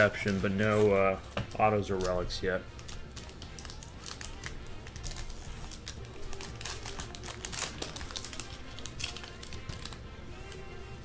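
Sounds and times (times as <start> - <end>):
background music: 0.0 - 11.0
foil wrapper crinkling and tearing: 1.8 - 10.7.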